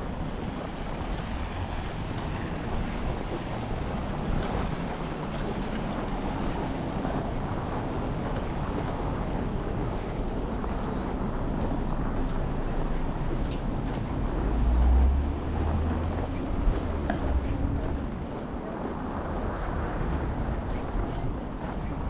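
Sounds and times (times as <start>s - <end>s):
city street traffic: 0.0s - 22.0s
wind on microphone: 0.0s - 22.0s.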